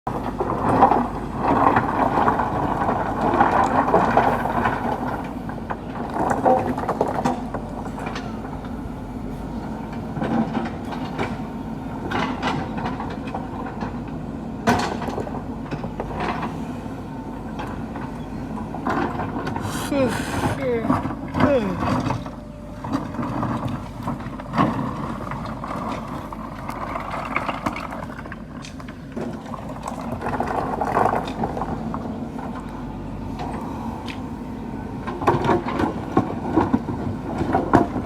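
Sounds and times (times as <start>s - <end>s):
diesel engine running: 0.1s - 38.0s.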